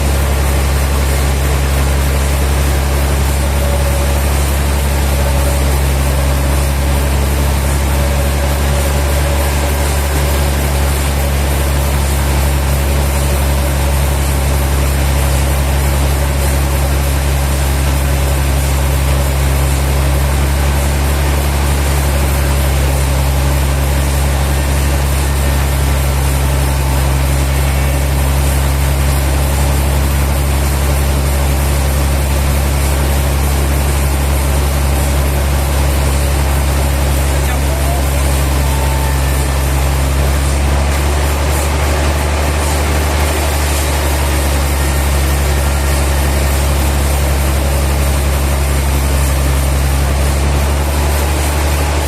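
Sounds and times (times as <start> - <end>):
sawmill machinery humming: 0.0 - 52.0.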